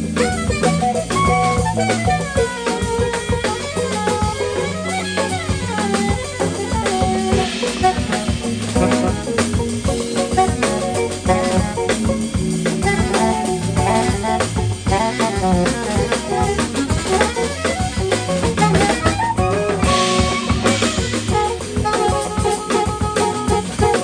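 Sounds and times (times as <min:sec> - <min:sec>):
alto saxophone melody: 0:00.0 - 0:24.0
drum kit: 0:00.0 - 0:24.0
electric guitar: 0:00.0 - 0:24.0
keyboard: 0:00.0 - 0:24.0.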